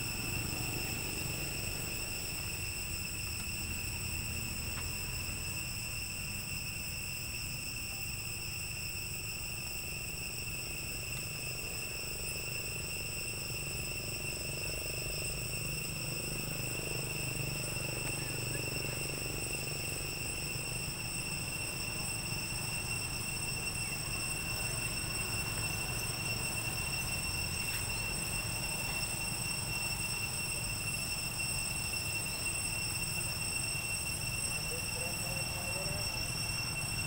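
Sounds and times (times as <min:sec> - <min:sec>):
high-pitched insect whine: 0:00.0 - 0:37.0.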